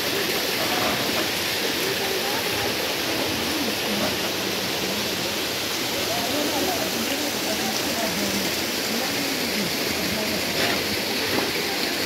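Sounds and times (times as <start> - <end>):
people talking: 0.0 - 12.0
running water: 0.0 - 12.0.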